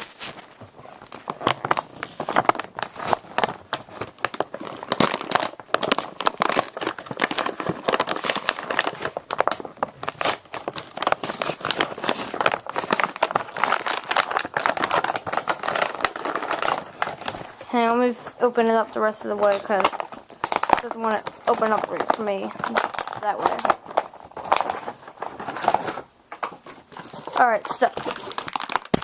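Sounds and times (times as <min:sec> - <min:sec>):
plastic and cardboard packaging crackling: 0:00.0 - 0:29.0.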